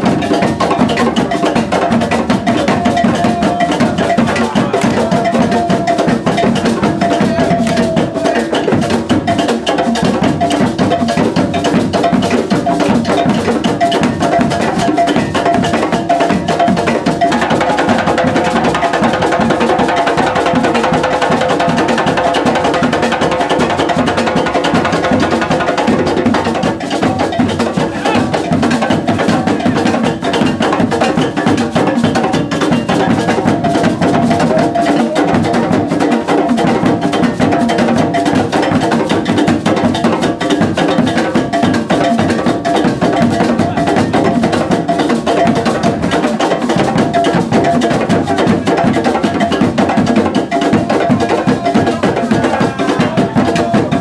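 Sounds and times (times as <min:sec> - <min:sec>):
drum ensemble playing dance rhythm: 0:00.0 - 0:54.0.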